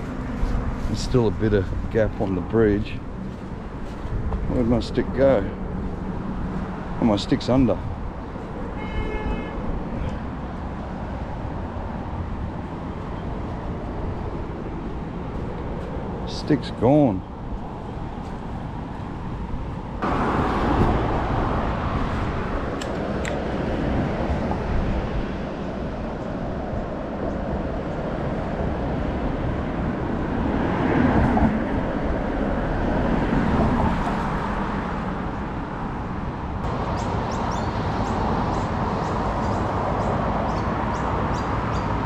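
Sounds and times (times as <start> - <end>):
road traffic tyre and engine noise: 0.0 - 42.0
vehicle passing: 0.0 - 42.0.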